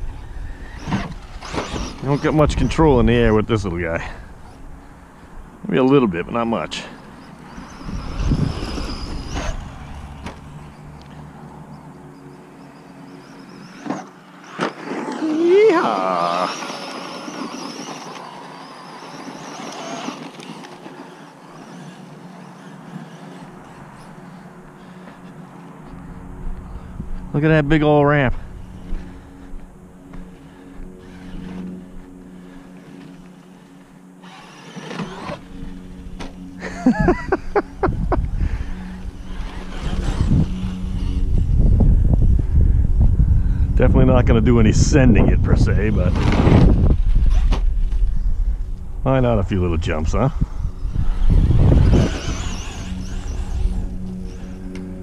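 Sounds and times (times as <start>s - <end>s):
electric motor whining: 0.0s - 49.2s, 49.8s - 55.0s
low wind rumble: 0.0s - 55.0s
steady low hum: 0.0s - 55.0s.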